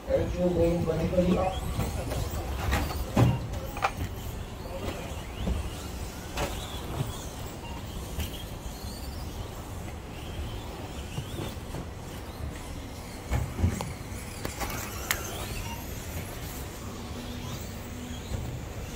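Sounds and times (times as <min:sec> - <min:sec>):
toy truck motors whining: 0:00.1 - 0:18.9.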